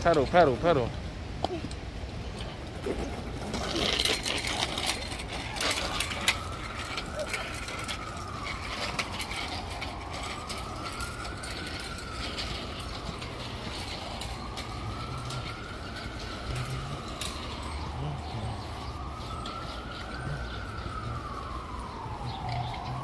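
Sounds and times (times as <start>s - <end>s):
street traffic rumble: 0.0s - 23.0s
emergency siren wailing: 2.8s - 23.0s.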